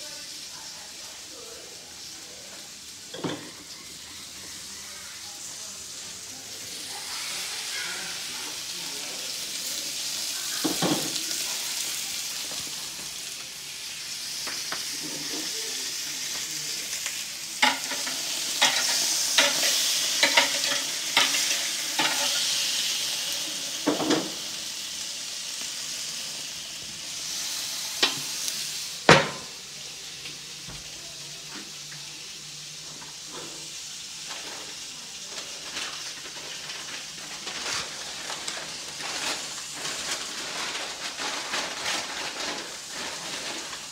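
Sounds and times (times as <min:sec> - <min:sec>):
steaks sizzling on a grill: 0:00.0 - 0:43.9.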